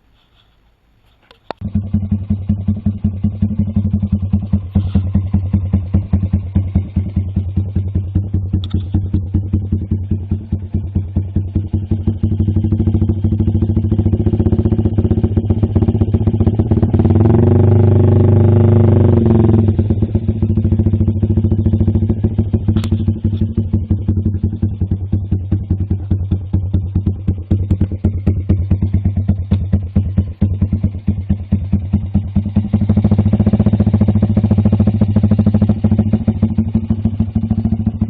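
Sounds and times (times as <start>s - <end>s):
single-cylinder engine revving: 1.6s - 38.0s.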